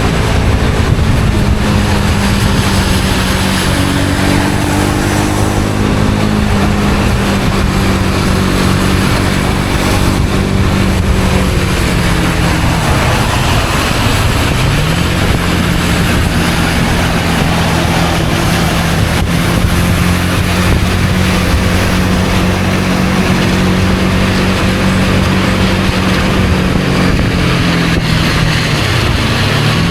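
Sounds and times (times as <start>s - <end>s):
loud wind: 0.0s - 29.9s
motorcycle engine cruising: 0.0s - 29.9s.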